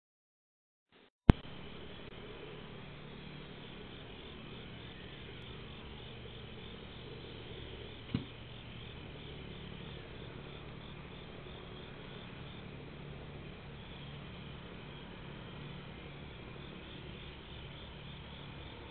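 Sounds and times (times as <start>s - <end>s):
night insects chirping: 1.3s - 18.9s.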